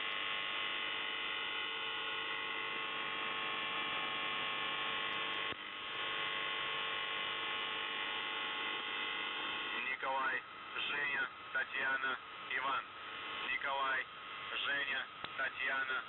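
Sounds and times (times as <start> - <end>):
raspy radio buzz: 0.0 - 16.0
radio hiss: 0.1 - 16.0.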